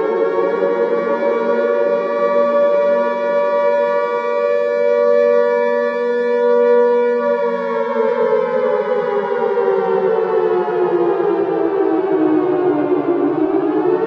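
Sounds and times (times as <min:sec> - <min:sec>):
air-raid siren wailing: 0:00.0 - 0:14.0.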